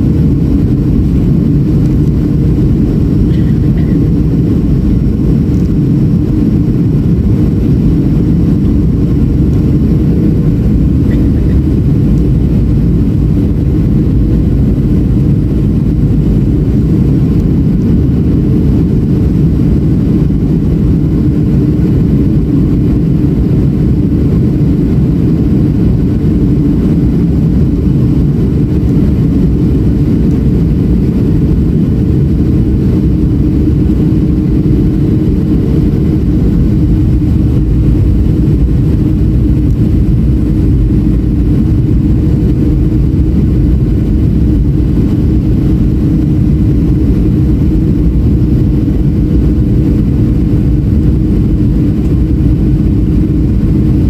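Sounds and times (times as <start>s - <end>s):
airplane cabin engine drone: 0.0s - 54.0s
hum: 0.0s - 54.0s.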